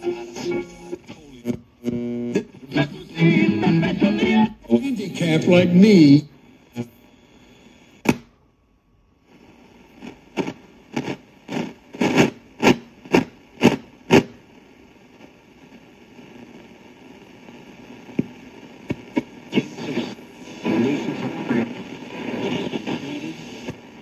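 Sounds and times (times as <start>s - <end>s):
radio static hiss: 0.0s - 8.3s, 9.1s - 24.0s.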